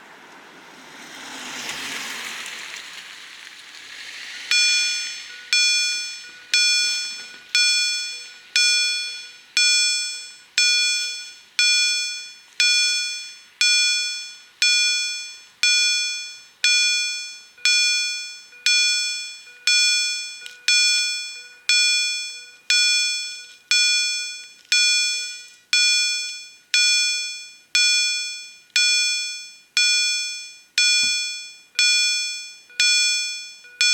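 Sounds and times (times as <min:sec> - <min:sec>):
level-crossing warning bell: 0:03.8 - 0:33.9.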